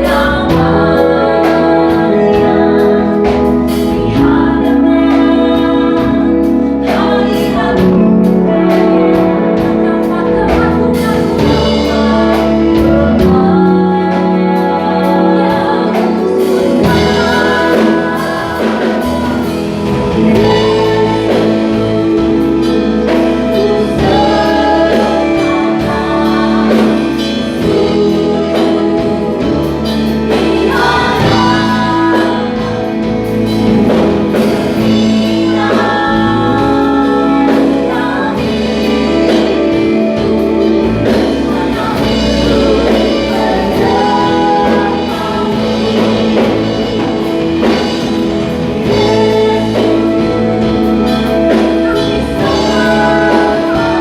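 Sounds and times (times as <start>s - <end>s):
gospel band playing: 0.0s - 54.0s
singers: 0.0s - 54.0s.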